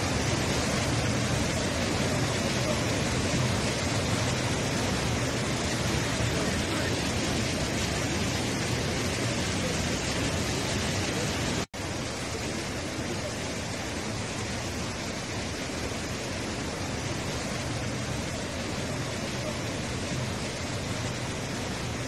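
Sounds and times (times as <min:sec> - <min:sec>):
muddy floodwater rushing: 0:00.0 - 0:22.0.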